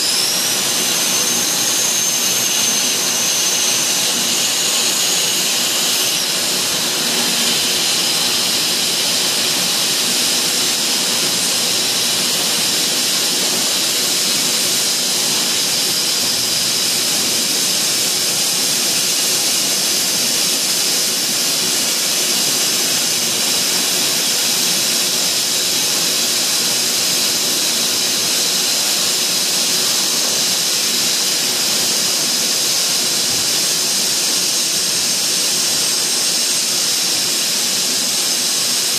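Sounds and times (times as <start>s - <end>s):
loud factory machine noise: 0.0s - 38.9s.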